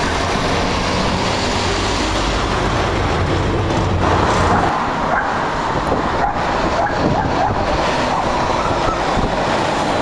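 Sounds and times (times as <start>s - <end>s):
diesel engine deep rumble: 0.0s - 10.0s
loud tyre noise: 0.0s - 10.0s.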